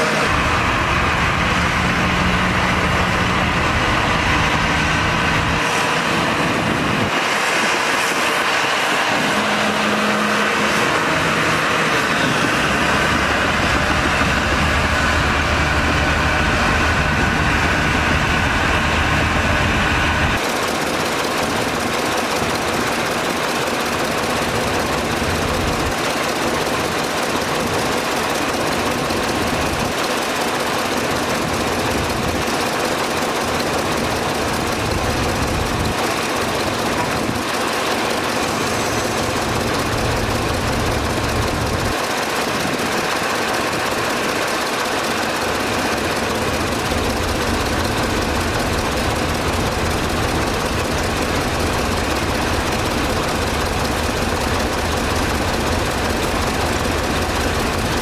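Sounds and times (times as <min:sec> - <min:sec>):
heavy diesel engine rumbling: 0:00.0 - 0:58.0.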